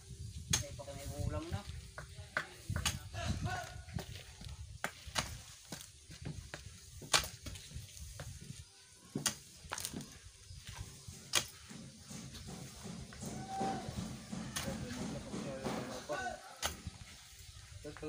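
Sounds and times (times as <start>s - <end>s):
shovel knocking and scraping soil: 0.4s - 18.0s.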